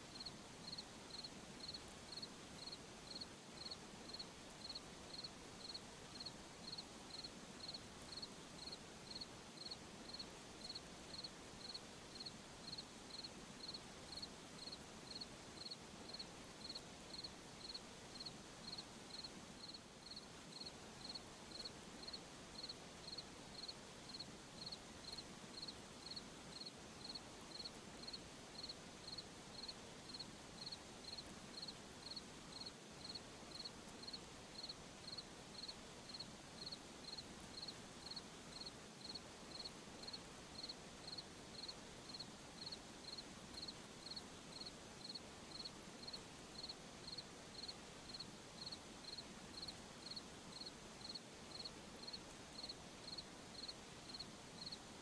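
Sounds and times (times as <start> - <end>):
faint steady hiss: 0.0 - 55.0
cricket chirping: 0.1 - 54.8.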